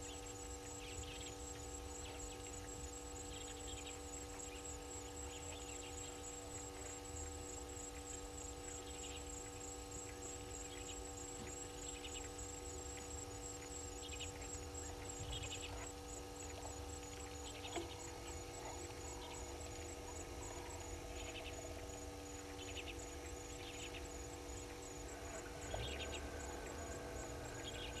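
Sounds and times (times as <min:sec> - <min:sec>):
electrical hum: 0:00.0 - 0:28.0
faint outdoor bush ambience: 0:00.0 - 0:28.0.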